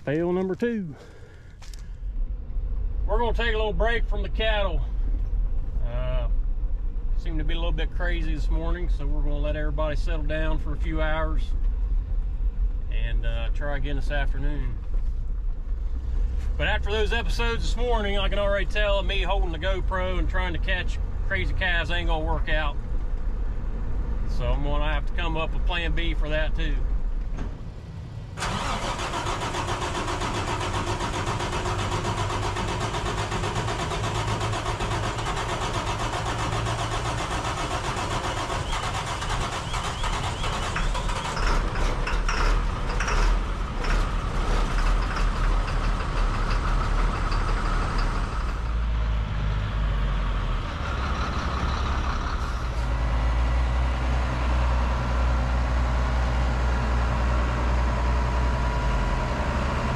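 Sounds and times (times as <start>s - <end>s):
tractor engine rumble: 0.0s - 59.9s
truck diesel engine starting and idling: 0.0s - 59.9s.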